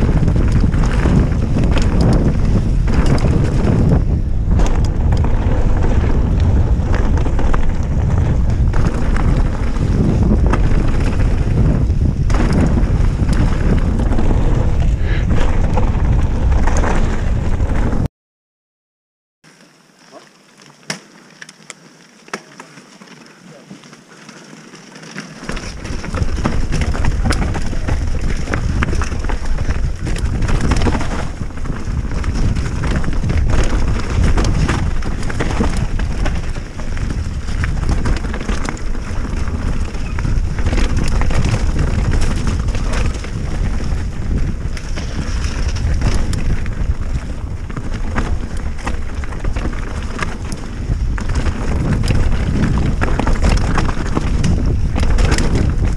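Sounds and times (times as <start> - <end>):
bike clattering: 0.0 - 18.0, 20.7 - 55.9
tyre noise on dirt: 0.0 - 18.1, 19.5 - 55.9
wind buffeting microphone: 0.0 - 18.1, 25.5 - 55.9.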